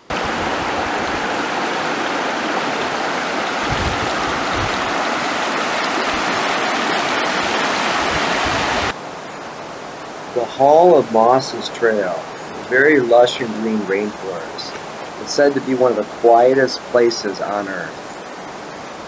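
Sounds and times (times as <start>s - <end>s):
river rushing over gravel: 0.0s - 19.0s.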